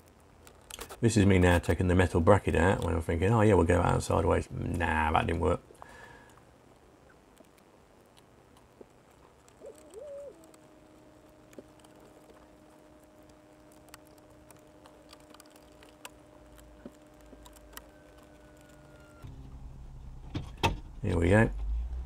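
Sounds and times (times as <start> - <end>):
faint steady tone: 0.0 - 22.0.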